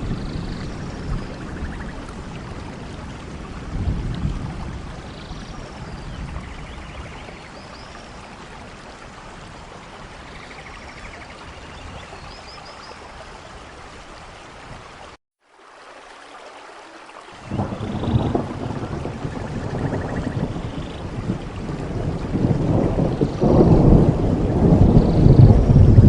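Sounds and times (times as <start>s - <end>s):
low rumble of thunder: 0.0s - 12.6s, 17.4s - 26.0s
steady rain: 0.0s - 26.0s.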